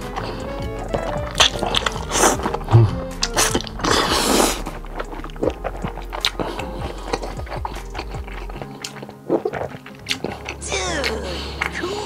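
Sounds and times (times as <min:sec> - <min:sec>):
background music with held notes: 0:00.0 - 0:12.0
mouth clicks: 0:00.0 - 0:12.0
person chewing noodles: 0:00.0 - 0:12.0.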